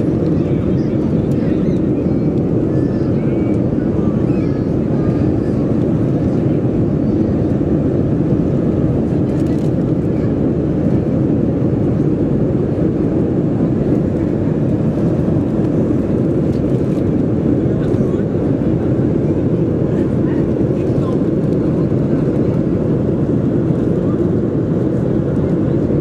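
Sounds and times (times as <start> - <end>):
airplane cabin roar: 0.0 - 26.0.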